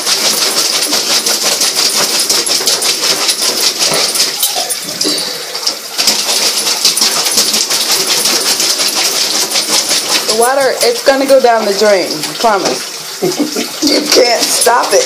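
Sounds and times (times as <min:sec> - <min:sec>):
dog claws scrabbling on bathtub: 0:00.0 - 0:15.0.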